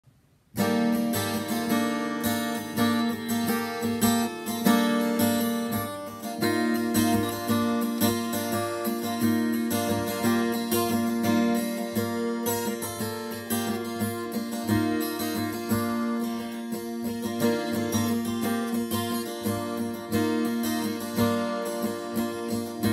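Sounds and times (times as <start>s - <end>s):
acoustic guitar strumming: 0.6s - 22.9s.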